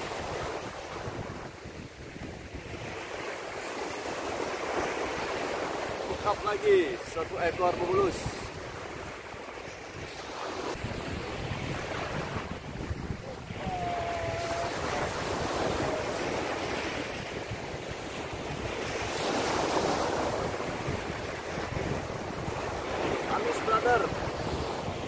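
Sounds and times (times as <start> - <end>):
small waves breaking on beach: 0.0 - 25.0
wind buffeting microphone: 0.0 - 25.0.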